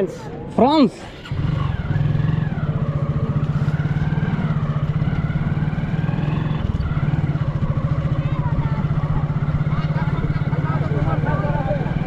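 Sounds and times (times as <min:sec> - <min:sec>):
motorcycle engine running: 0:00.6 - 0:12.0.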